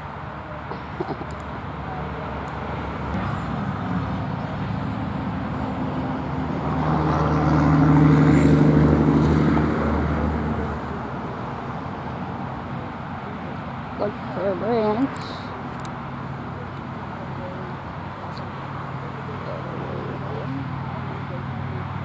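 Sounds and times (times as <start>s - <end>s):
vehicle passing by: 1.0s - 22.0s.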